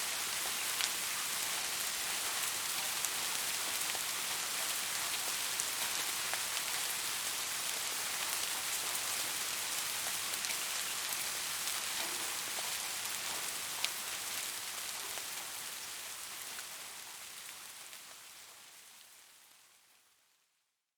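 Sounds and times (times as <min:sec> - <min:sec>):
soft rain hiss: 0:00.0 - 0:20.9.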